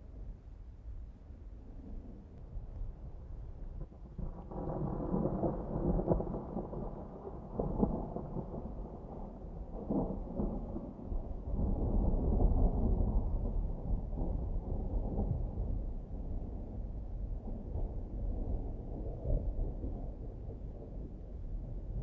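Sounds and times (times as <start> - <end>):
low rumbling storm: 0.0 - 22.0.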